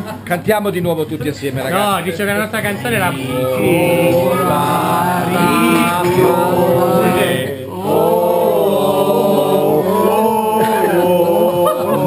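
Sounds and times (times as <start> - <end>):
men singing together: 1.8 - 12.0.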